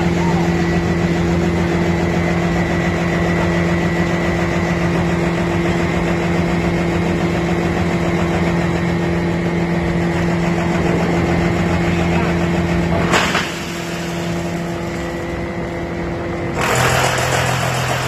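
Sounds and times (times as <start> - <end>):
wood chipper humming: 0.0 - 18.0.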